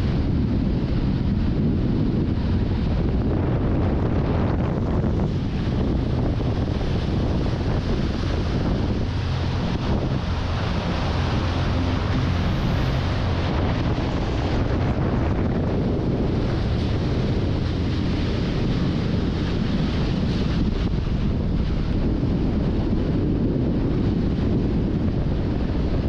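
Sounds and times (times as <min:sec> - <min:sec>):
boat engine rumble: 0:00.0 - 0:26.0
water rushing past hulls: 0:00.0 - 0:26.0
wind buffeting microphone: 0:00.0 - 0:26.0.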